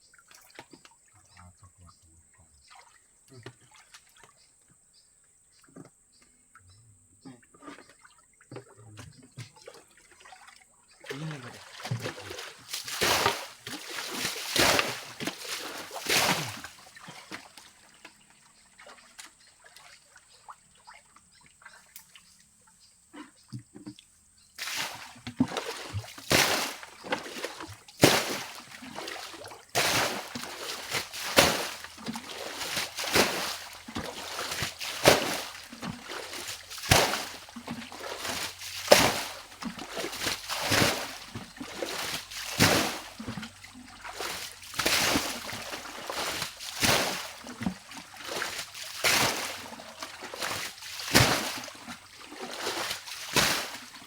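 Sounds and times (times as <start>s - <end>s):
water bailed out with splashes: 7.5s - 22.4s, 23.2s - 54.0s.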